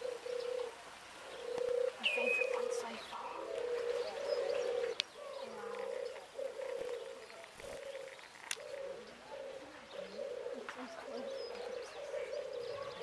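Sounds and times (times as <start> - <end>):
doves cooing: 0.0 - 13.0
small birds chirping: 0.0 - 13.0.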